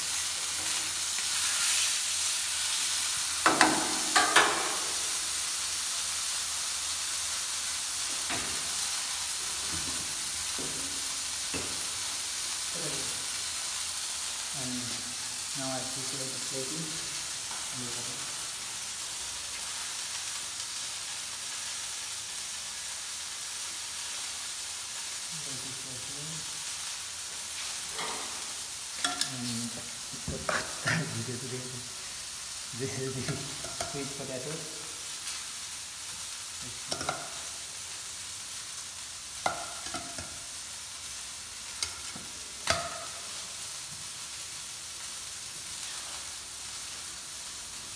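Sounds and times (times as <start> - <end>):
food sizzling in oil: 0.0 - 47.9.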